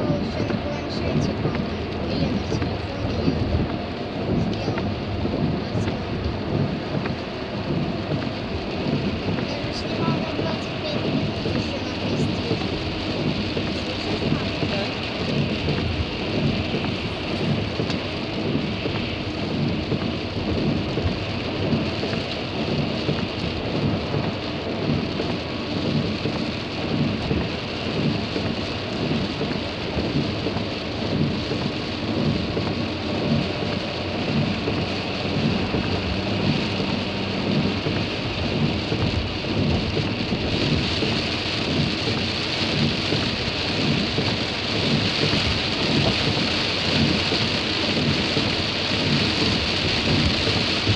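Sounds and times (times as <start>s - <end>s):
heavy rain on car roof: 0.0s - 50.9s.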